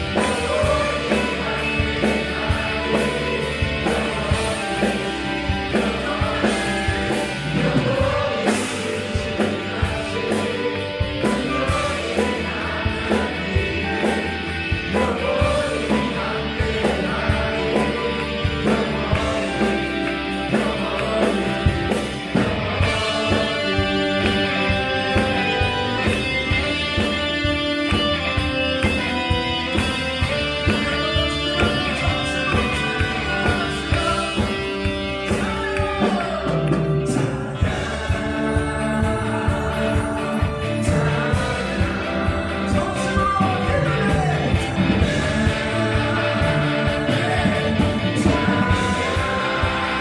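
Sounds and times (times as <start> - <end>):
live worship band playing: 0.0 - 50.0
people singing: 0.0 - 50.0.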